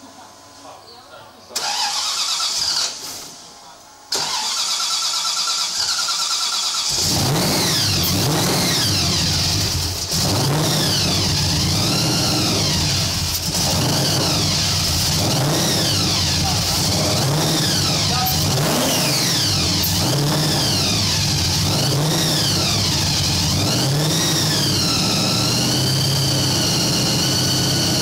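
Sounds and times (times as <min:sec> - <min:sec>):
engine cranking: 0:01.6 - 0:03.1, 0:04.1 - 0:28.0
engine revving: 0:04.1 - 0:28.0.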